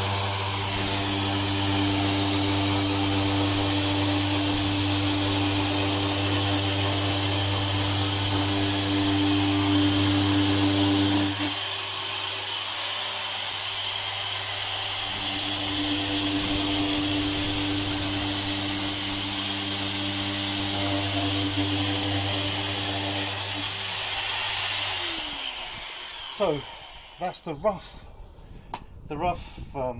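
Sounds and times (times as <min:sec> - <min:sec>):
orbital sander on wood: 0:00.0 - 0:28.3.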